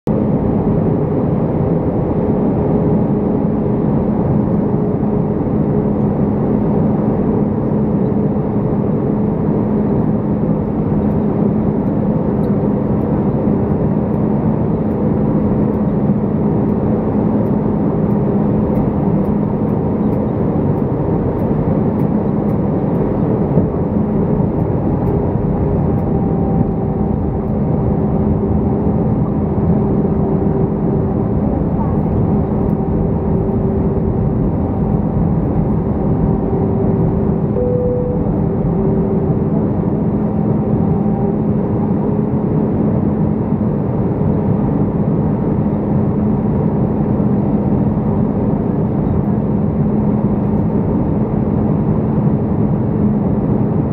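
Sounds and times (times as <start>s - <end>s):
jet engines and airflow rumble: 0.0s - 53.9s
steady low hum: 0.1s - 53.9s.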